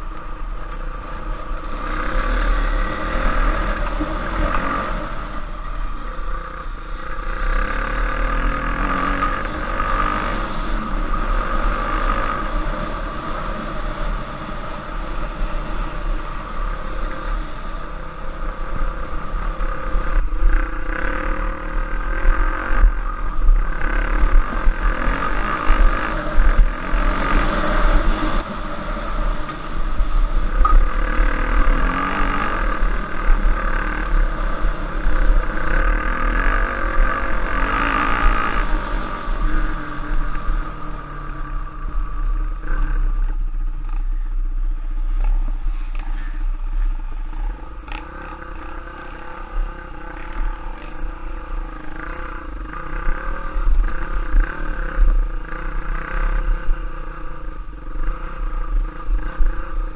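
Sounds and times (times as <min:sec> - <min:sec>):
trail bike engine revving: 0:00.0 - 0:59.9.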